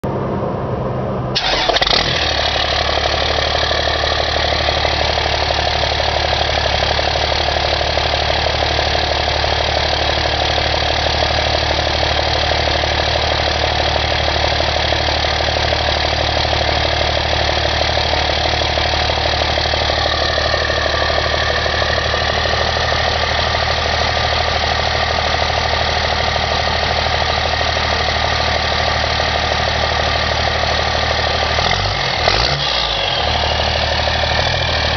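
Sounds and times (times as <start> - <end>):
diesel engine cranking and idling: 0.0 - 34.9.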